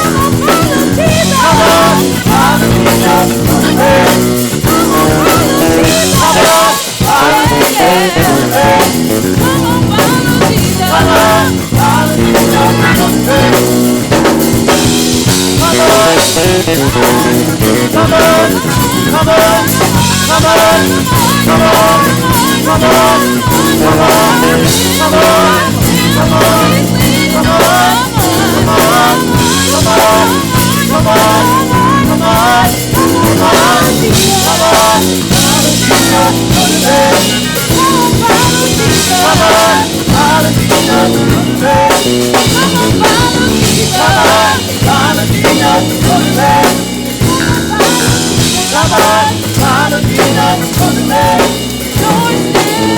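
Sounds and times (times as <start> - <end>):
gospel band playing: 0.0 - 52.9.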